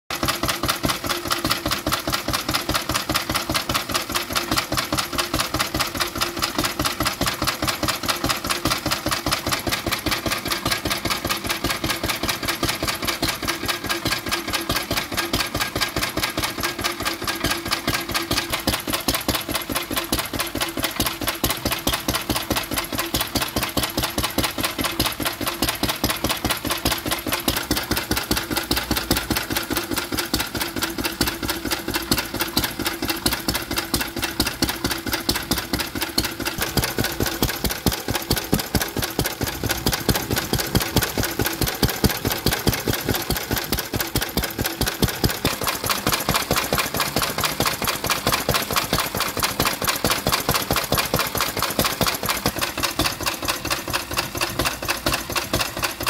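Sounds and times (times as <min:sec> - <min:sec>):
stationary engine exhaust beating: 0:00.1 - 0:56.0.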